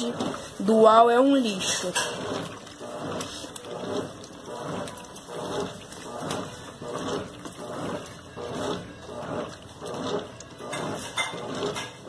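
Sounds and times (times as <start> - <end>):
washing machine agitating: 0.0 - 12.0
water and clothes sloshing: 0.0 - 12.0.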